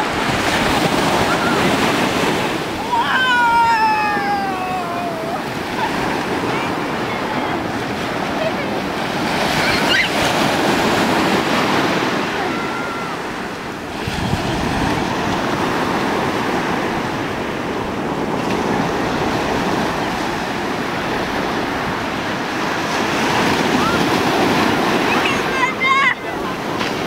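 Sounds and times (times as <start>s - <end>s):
ocean surf breaking on shore: 0.0s - 27.0s.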